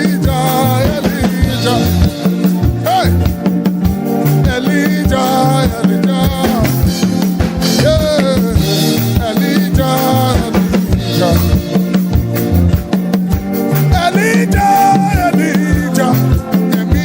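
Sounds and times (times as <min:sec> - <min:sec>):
bass line: 0:00.0 - 0:17.0
drum kit beat: 0:00.0 - 0:17.0
singing voices: 0:00.0 - 0:17.0
upbeat worship band music: 0:00.0 - 0:17.0.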